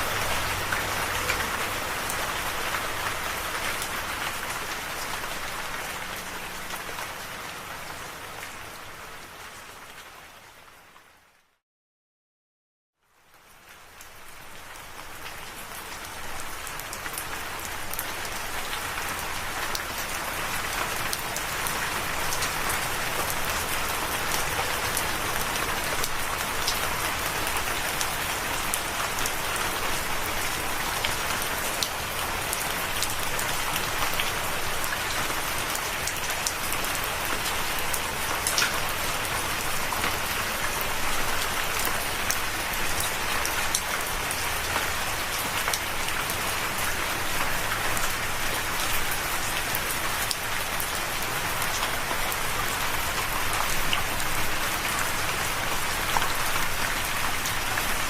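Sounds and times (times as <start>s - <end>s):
rain falling: 0.0s - 11.5s, 13.0s - 58.0s.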